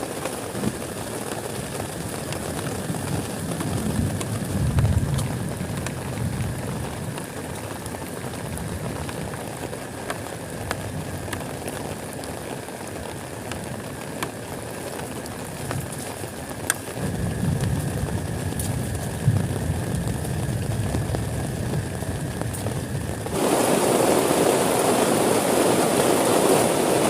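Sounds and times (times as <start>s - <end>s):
heavy rain on a tent: 0.0s - 27.0s.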